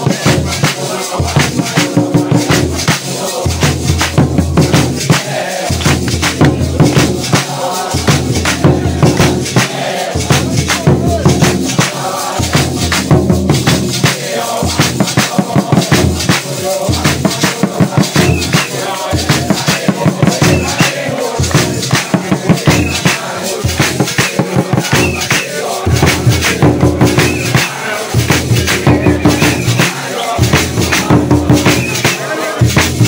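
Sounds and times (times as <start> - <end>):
congregation singing a hymn: 0.0 - 33.0
rhythmic hand clapping: 0.0 - 33.0
steady drum beat: 0.0 - 33.0.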